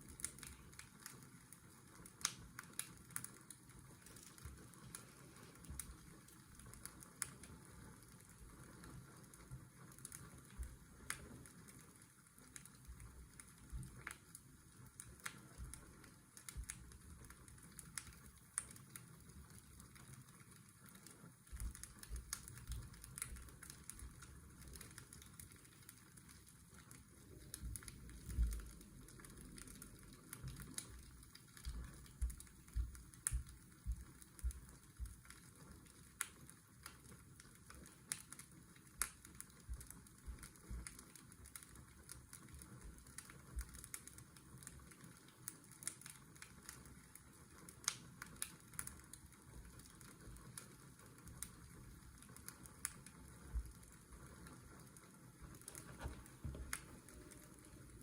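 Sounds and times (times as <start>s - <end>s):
fireplace crackling and popping: 0.0s - 58.0s
soft steady hiss: 0.0s - 58.0s.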